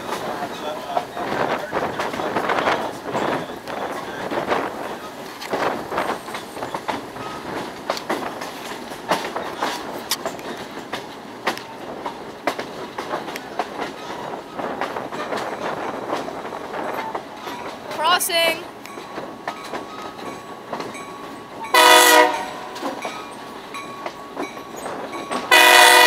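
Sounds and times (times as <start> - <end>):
train rushing ride noise: 0.0 - 26.0
train wheels clattering over rails: 0.0 - 26.0.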